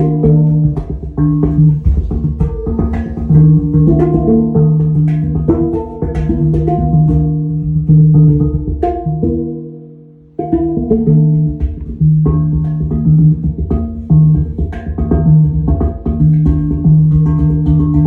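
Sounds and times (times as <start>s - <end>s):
bass: 0.0s - 18.0s
percussion: 0.0s - 18.0s.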